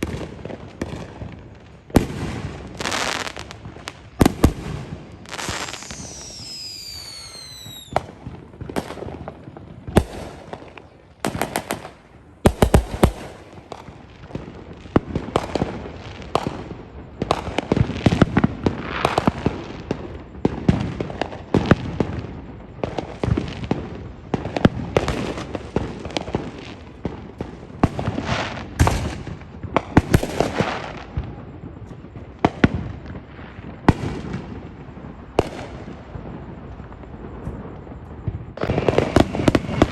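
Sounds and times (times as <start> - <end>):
fireworks banging and crackling: 0.0 - 39.9
fireworks falling whistles: 0.0 - 39.9.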